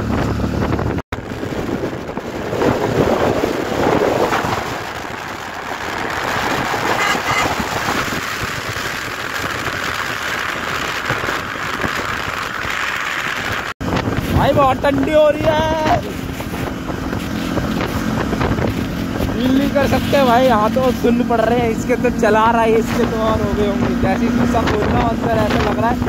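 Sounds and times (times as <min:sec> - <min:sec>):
road and traffic noise: 0:00.0 - 0:26.0
wind rushing over microphone: 0:00.0 - 0:26.0.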